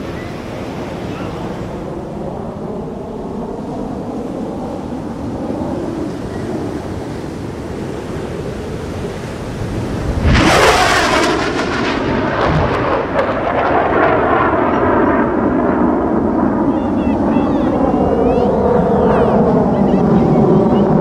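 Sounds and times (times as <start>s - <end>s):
fighter jet passing low: 0.0s - 21.0s
wind noise: 0.0s - 21.0s.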